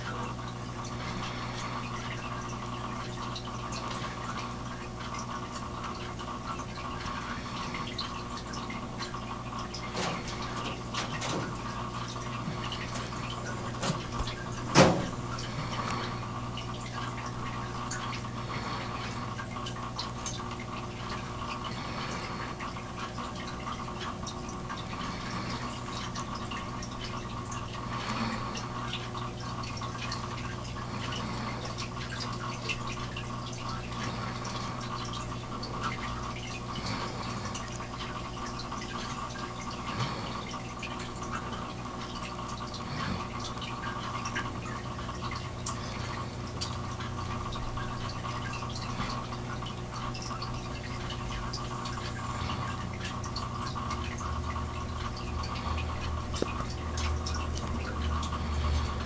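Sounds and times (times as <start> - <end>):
steady hum: 0.0 - 59.0
water trickling and dripping: 0.0 - 59.0.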